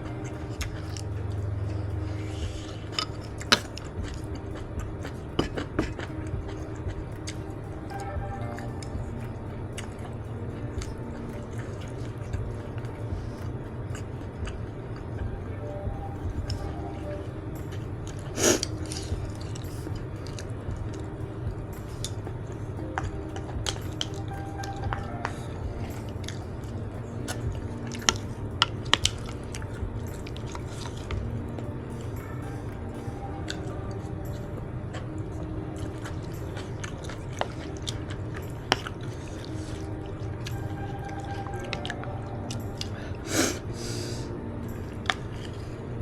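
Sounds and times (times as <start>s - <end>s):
chewing and wet mouth sounds: 0.0s - 46.0s
low rumble: 0.0s - 46.0s.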